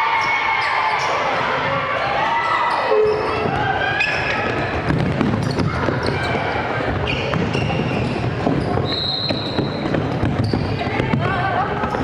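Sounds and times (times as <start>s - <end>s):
crowd murmur: 0.0s - 12.0s
footfalls in a hall: 0.0s - 12.0s.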